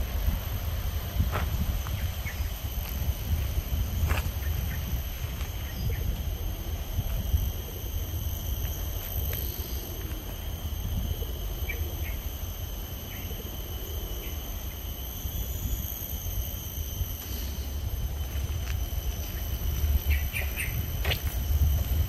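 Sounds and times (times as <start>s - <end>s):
high-pitched insect drone: 0.0s - 22.0s
short insect chirps: 0.0s - 22.0s.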